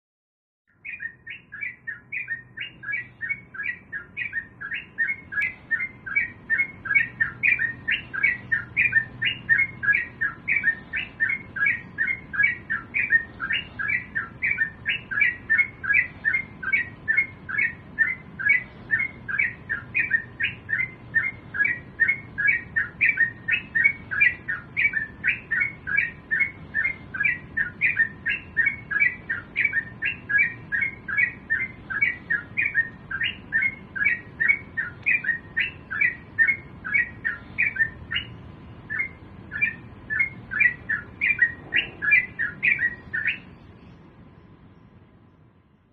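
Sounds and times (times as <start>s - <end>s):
bulbul calling in rapid notes: 0.7s - 43.7s.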